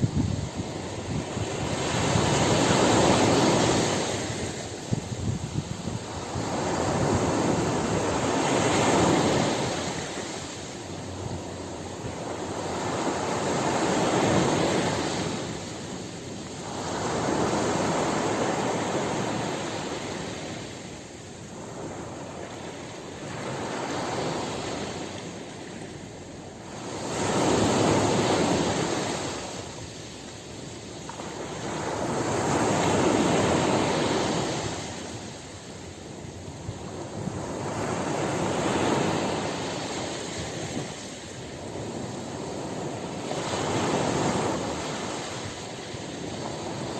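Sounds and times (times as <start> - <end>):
ocean surf breaking: 0.0 - 30.3, 30.9 - 46.9.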